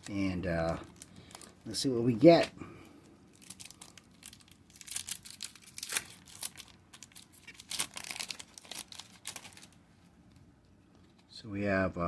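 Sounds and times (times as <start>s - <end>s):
plastic wrapper tearing and crinkling: 0.0s - 11.3s.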